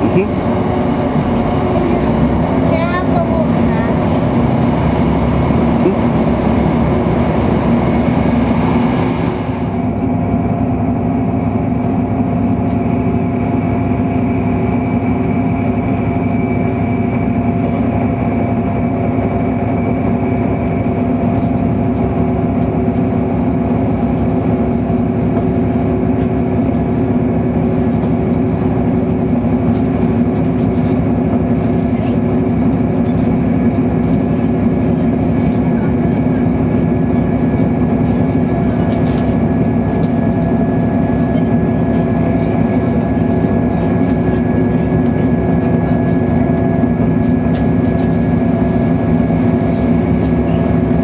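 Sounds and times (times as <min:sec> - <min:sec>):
train rumble inside carriage: 0:00.0 - 0:51.0.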